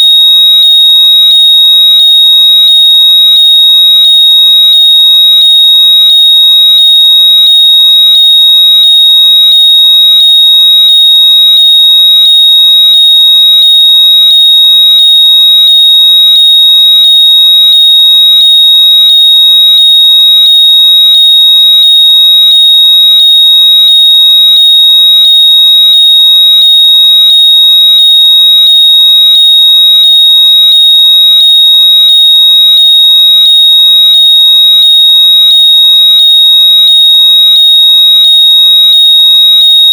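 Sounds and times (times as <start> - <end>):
high-pitched electronic tone: 0.0 - 39.9.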